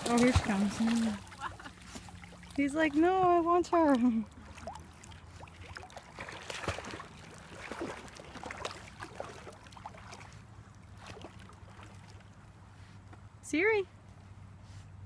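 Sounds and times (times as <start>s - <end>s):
dog paddling through splashing water: 0.0s - 12.7s.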